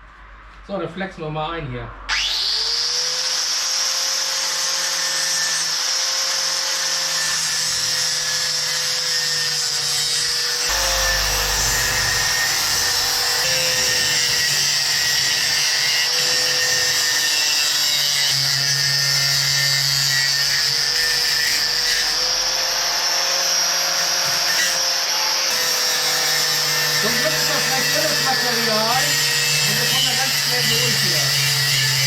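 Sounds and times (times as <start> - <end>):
angle grinder cutting metal: 2.1 - 32.0.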